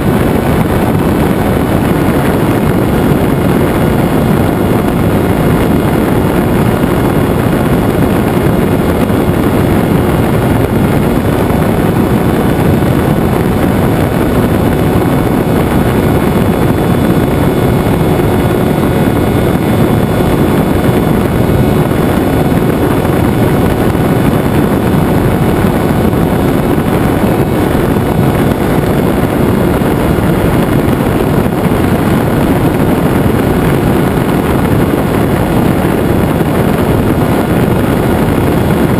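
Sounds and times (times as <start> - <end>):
propeller motor running: 0.0 - 38.9
wind rushing: 0.0 - 38.9.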